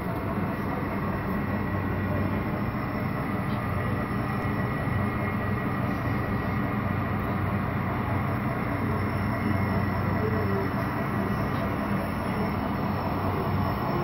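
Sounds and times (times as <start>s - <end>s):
faint high whine: 0.0s - 14.0s
model train rumble: 0.0s - 14.0s.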